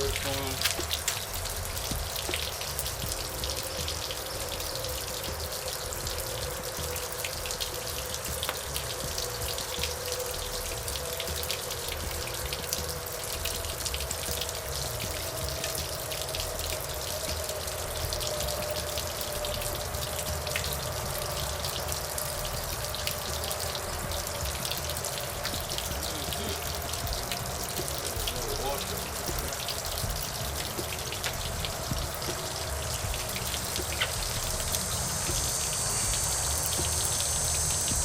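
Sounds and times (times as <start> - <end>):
running water splashing: 0.0 - 38.0.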